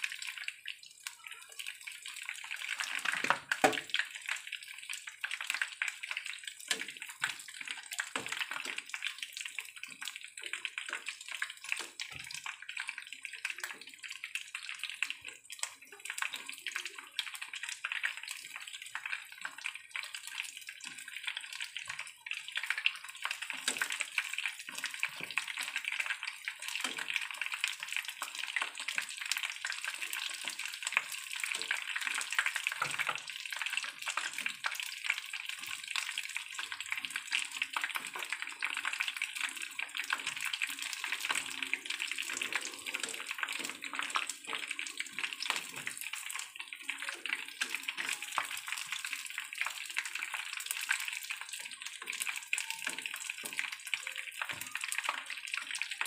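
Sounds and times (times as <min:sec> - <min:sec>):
chicken deep-frying in oil: 0:00.0 - 0:56.0.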